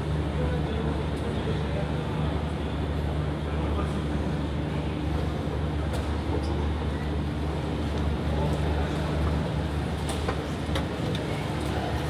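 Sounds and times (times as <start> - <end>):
constant hum: 0.0 - 12.0.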